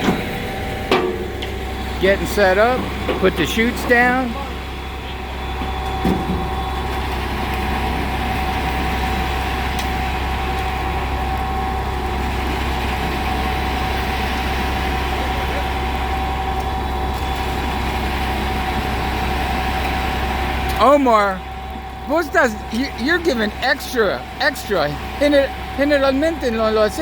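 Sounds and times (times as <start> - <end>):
constant whine: 0.0 - 27.0
diesel engine running: 0.0 - 27.0.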